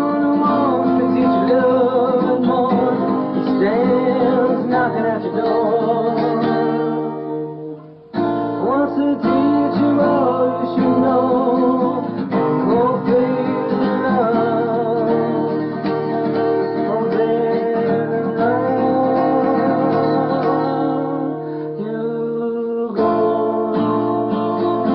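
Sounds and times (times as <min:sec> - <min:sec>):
strummed acoustic guitar: 0:00.0 - 0:24.9.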